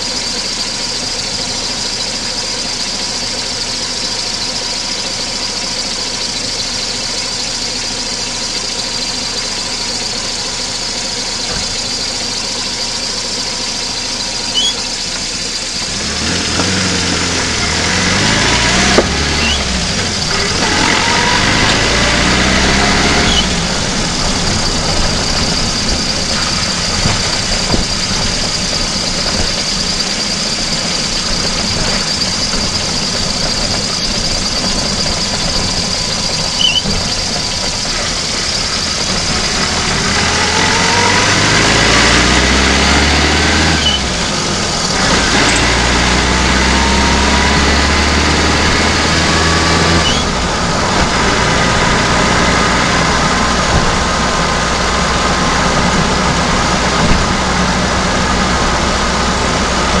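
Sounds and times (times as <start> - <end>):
car engine running: 0.0 - 60.0.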